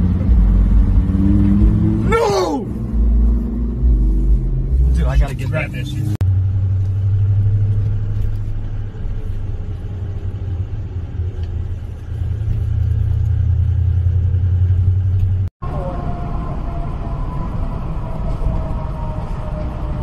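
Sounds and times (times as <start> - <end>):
car interior engine and road noise: 0.0 - 20.0.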